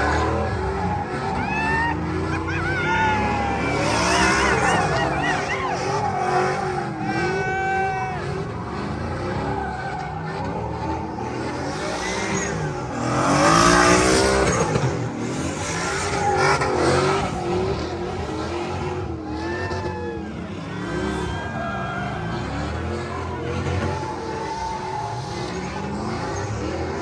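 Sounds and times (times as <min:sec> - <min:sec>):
truck engines revving: 0:00.0 - 0:27.0.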